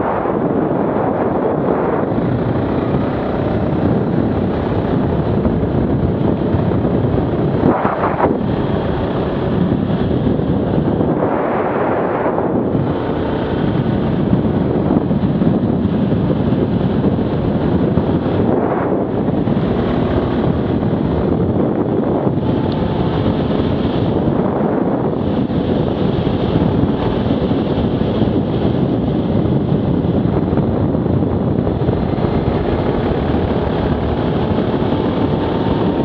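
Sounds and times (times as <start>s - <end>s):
atv engine running: 0.0s - 36.0s
wind buffeting microphone: 0.0s - 36.0s.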